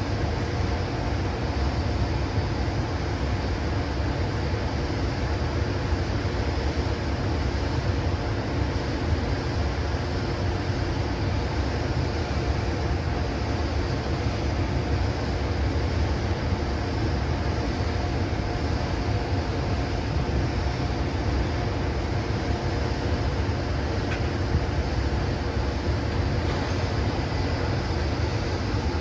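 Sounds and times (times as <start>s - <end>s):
locomotive cooling blowers whirring: 0.0s - 29.0s.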